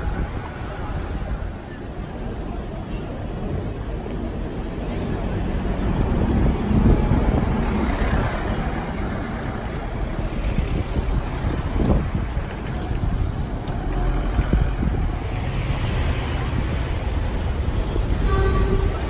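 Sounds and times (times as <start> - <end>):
bus engine rumbling: 0.0 - 19.0
city traffic: 0.0 - 19.0.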